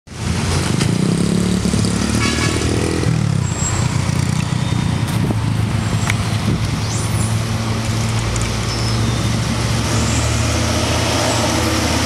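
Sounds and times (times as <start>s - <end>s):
vehicle engines running: 0.1s - 12.0s
motorcycle passing: 0.2s - 12.0s.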